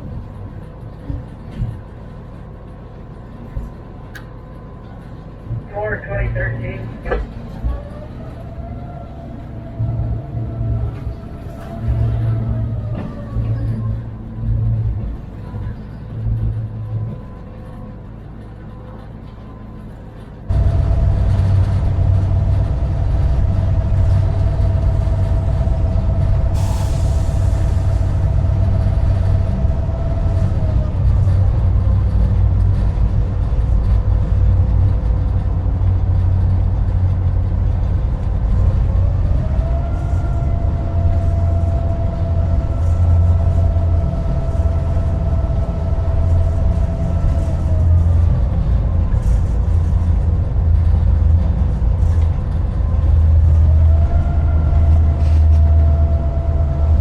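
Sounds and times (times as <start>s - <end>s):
locomotive engine rumble: 0.0s - 57.0s
locomotive whine: 0.0s - 57.0s.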